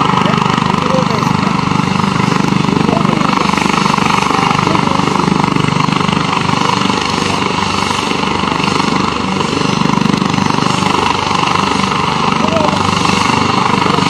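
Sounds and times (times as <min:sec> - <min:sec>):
helicopter turbine and rotor noise: 0:00.0 - 0:14.0.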